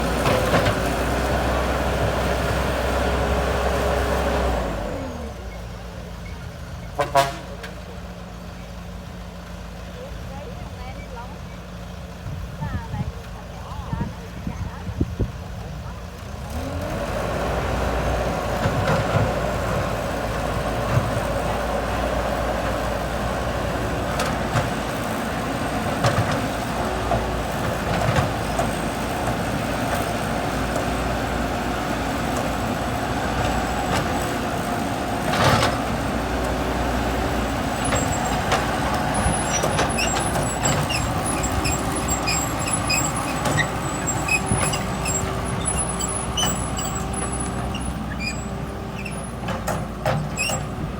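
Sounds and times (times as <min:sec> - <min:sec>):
heavy vehicle engine under load: 0:00.0 - 0:50.9.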